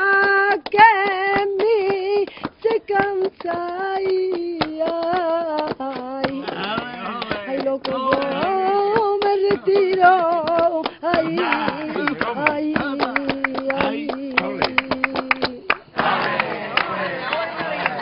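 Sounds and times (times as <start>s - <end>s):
woman singing: 0.0s - 15.8s
rhythmic handclaps: 0.0s - 18.0s.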